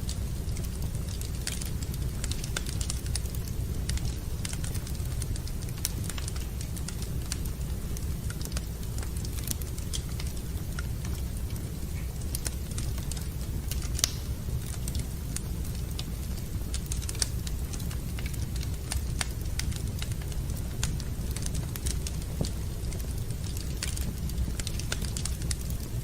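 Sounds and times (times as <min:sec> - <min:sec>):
low steady rumble: 0:00.0 - 0:26.0
wood fire crackling and popping: 0:00.0 - 0:26.0.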